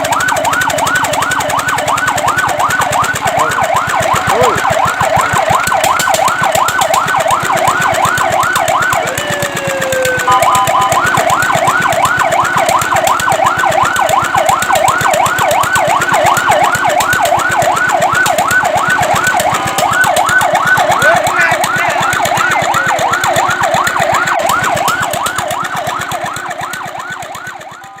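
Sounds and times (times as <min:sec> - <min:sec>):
fire truck siren yelping: 0:00.0 - 0:28.0.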